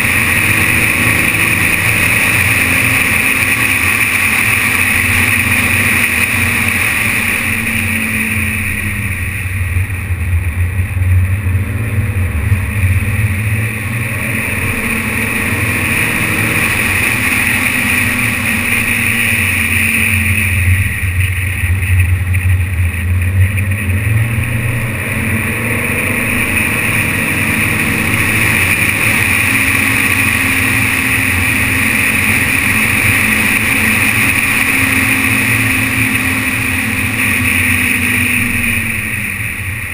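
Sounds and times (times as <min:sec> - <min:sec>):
muffled car engine drone: 0:00.0 - 0:39.9
road and wind noise: 0:00.0 - 0:39.9.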